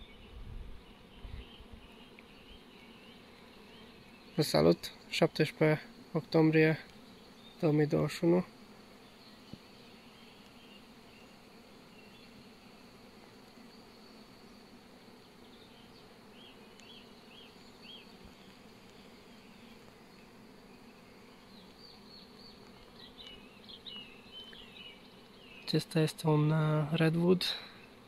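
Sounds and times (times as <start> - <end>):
honeybees humming: 0.0 - 28.0.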